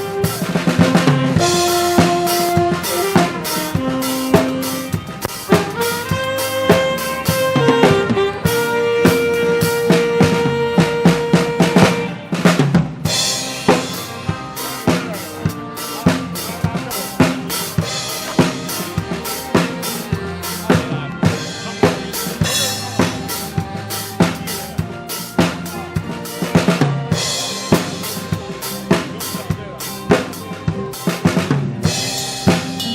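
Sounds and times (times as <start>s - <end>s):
drum kit beat: 0.0s - 32.9s
live band dance music: 0.0s - 32.9s.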